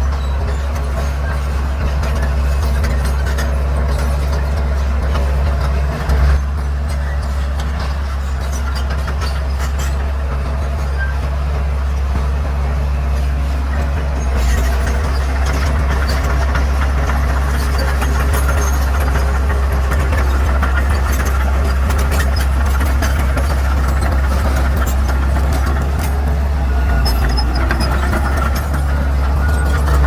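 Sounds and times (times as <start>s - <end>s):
bulldozer diesel engine: 0.0s - 30.0s.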